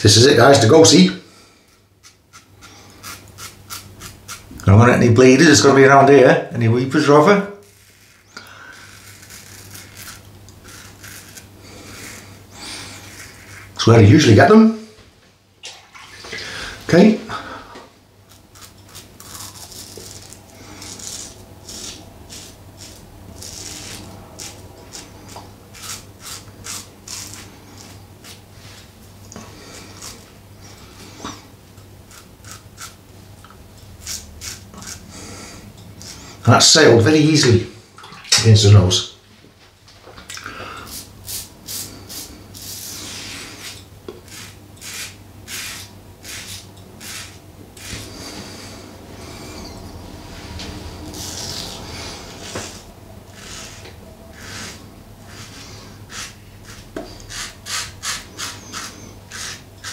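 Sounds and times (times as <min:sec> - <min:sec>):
razor scraping stubble: 0:01.6 - 0:04.8, 0:06.6 - 0:14.4, 0:18.2 - 0:33.0, 0:33.8 - 0:37.5, 0:40.9 - 0:59.9.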